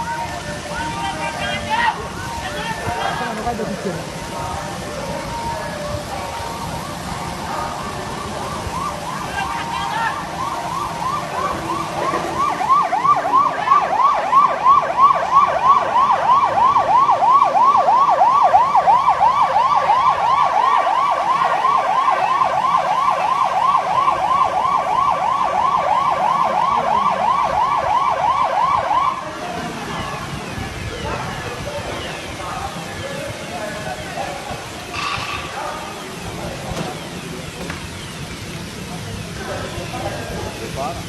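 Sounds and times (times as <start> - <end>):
emergency siren fast yelp: 0.0 - 41.0.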